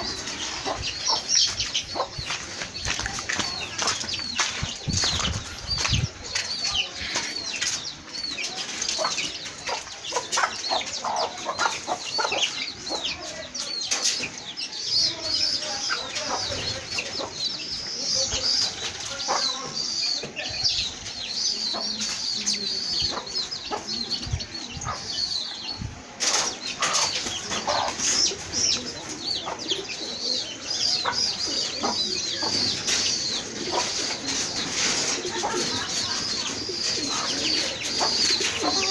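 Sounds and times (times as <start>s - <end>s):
chickens clucking: 0.0s - 38.9s
chickens peeping and chirping: 0.0s - 38.9s.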